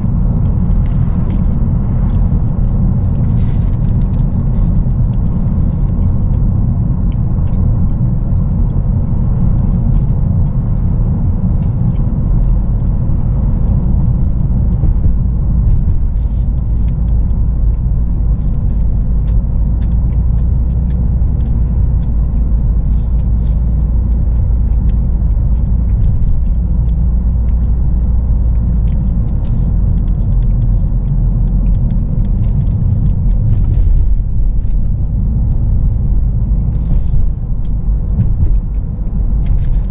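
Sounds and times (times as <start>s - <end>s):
car road and engine rumble: 0.0s - 39.9s
light ticks and rattles: 0.0s - 39.9s.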